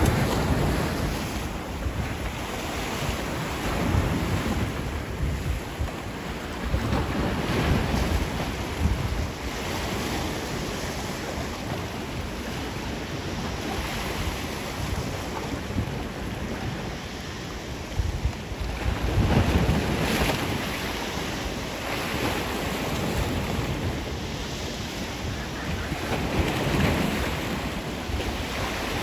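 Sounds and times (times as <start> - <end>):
waves breaking on rocks: 0.0 - 29.0
wind buffeting microphone: 0.0 - 29.0.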